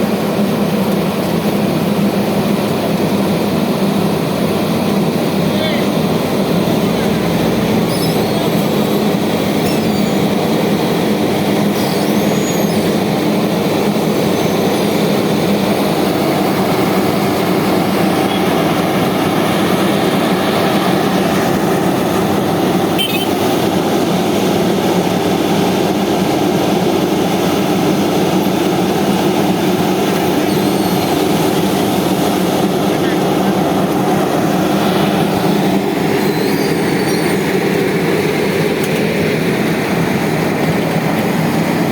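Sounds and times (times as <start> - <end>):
heavy machinery engine droning: 0.0 - 41.9.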